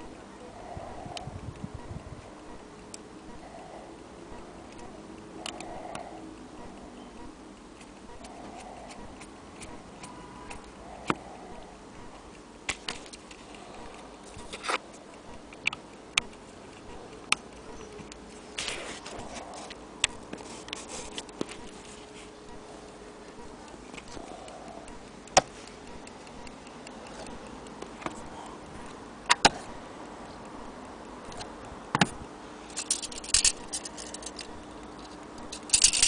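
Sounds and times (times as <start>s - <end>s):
clock movement clicking: 4.3s - 36.0s.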